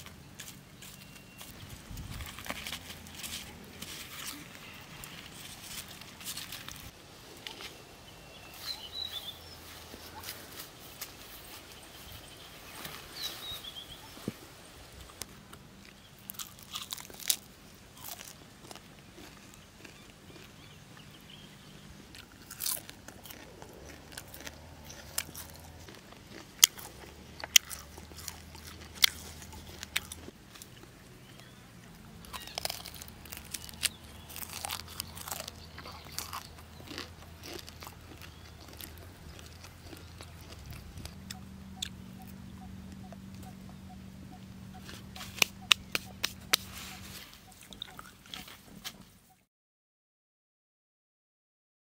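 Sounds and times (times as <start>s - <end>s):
crunching and chewing: 0.0s - 7.8s, 15.0s - 49.4s.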